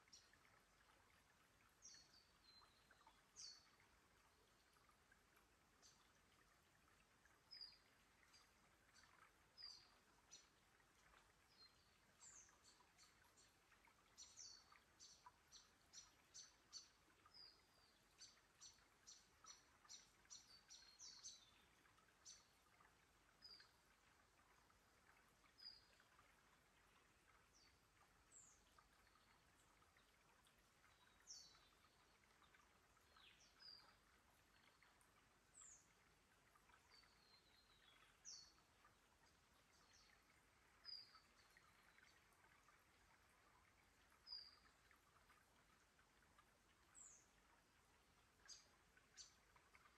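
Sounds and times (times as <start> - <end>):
faint steady hiss: 0.0 - 49.9.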